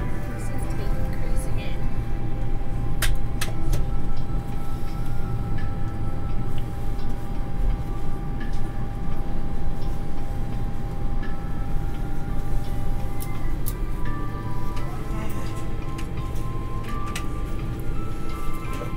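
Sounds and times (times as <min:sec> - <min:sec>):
aircraft engines rumbling: 0:00.0 - 0:18.9.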